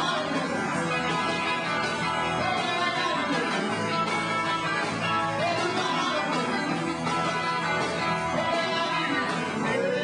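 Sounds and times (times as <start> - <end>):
electric guitar: 0.0 - 10.0
live rock band playing: 0.0 - 10.0.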